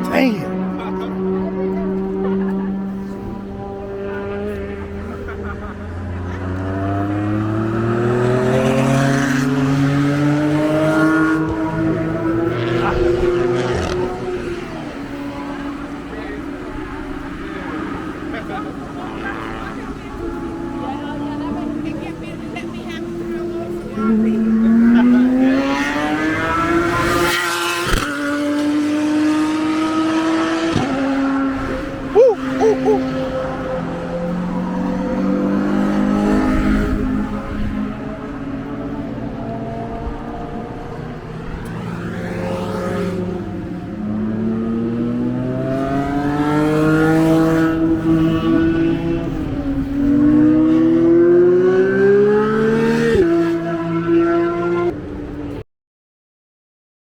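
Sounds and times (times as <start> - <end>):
vehicle engine accelerating: 0.0 - 55.0.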